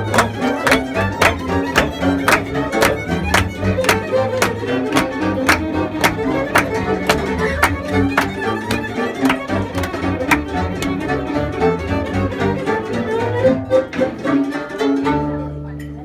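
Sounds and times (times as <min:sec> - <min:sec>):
bass line: 0:00.0 - 0:13.7
violin playing: 0:00.0 - 0:16.0.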